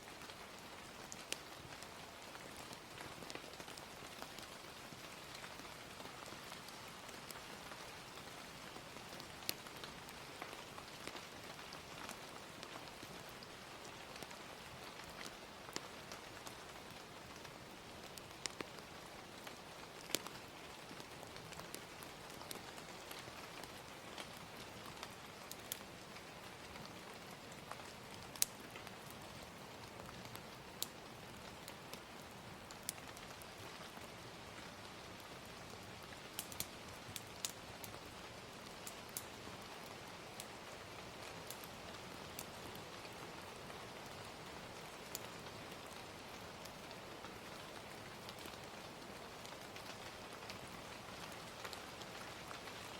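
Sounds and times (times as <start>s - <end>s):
gentle rain hissing: 0.0s - 52.9s
wood fire popping and crackling: 0.0s - 52.9s.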